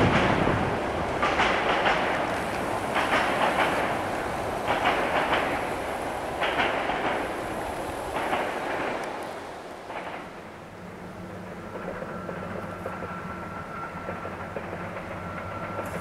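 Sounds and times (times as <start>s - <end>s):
train wheels clattering over joints: 0.0s - 10.5s, 11.4s - 16.0s.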